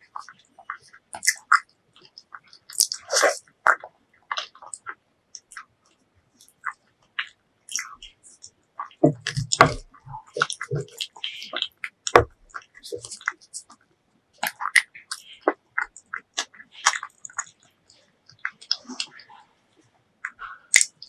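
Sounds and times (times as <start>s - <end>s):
close chewing and biting: 0.0s - 13.8s, 14.4s - 21.0s.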